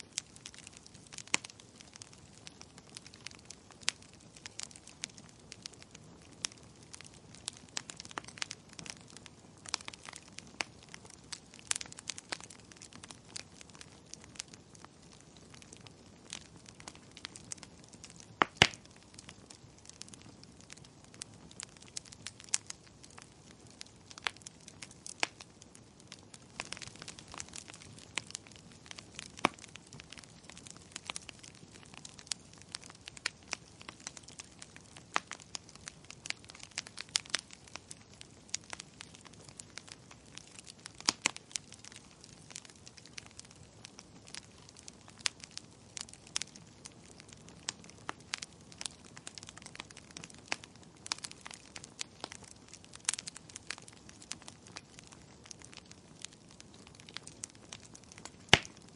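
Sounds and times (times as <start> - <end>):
campfire crackling: 0.0 - 58.9.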